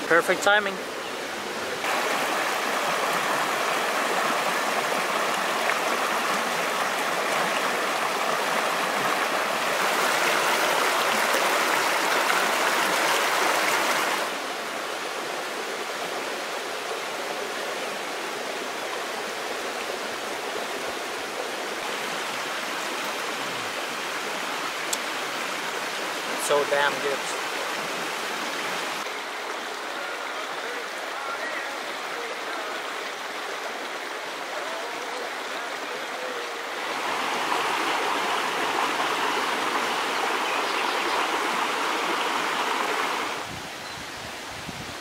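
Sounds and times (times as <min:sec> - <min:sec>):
river rushing over rocks: 0:00.0 - 0:45.0.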